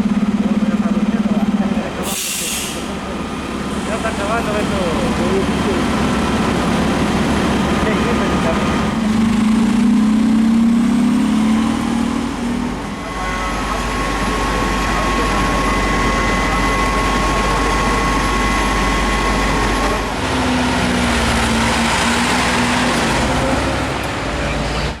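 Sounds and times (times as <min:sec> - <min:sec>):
fire truck diesel engine running: 0:00.0 - 0:25.0.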